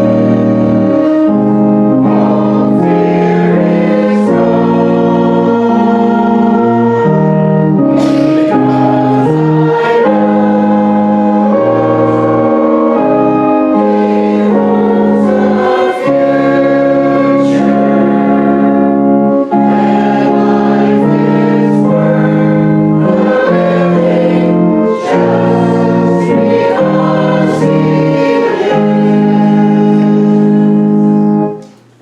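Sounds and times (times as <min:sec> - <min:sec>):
congregation singing a hymn: 0:00.0 - 0:31.8.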